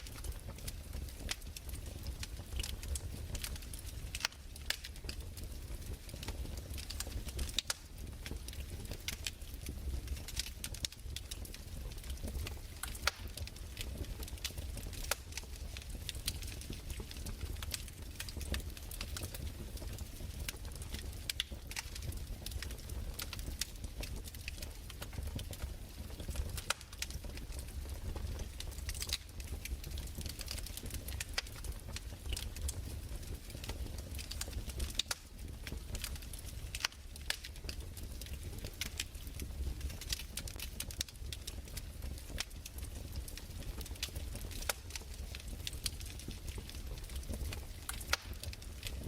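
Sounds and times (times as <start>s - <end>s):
fireplace crackling: 0.0s - 49.0s.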